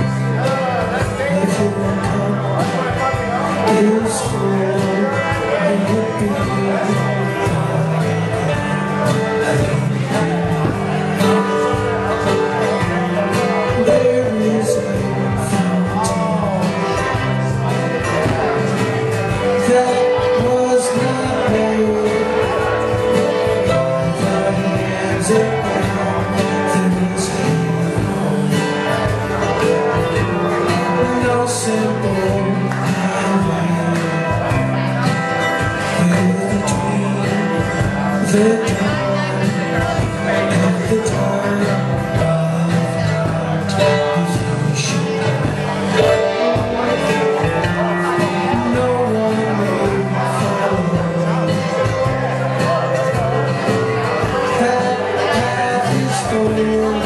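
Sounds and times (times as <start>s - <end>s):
bluegrass string band playing: 0.0s - 57.0s.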